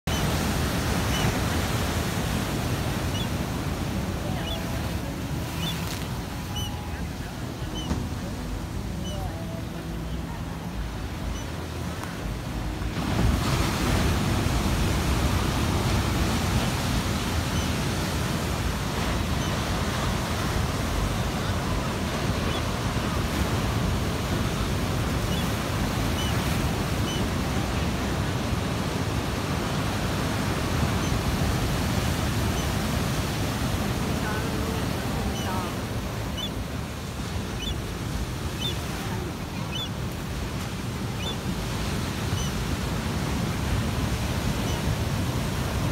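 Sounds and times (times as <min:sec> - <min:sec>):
ocean surf breaking on rocks: 0:00.1 - 0:45.9.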